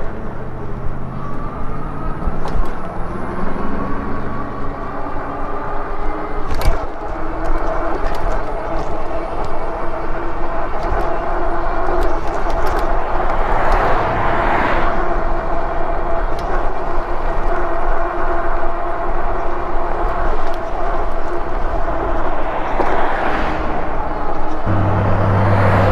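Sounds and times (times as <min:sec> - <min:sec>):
hub motor whine: 0:00.0 - 0:25.9
road and wind rush: 0:00.0 - 0:25.9.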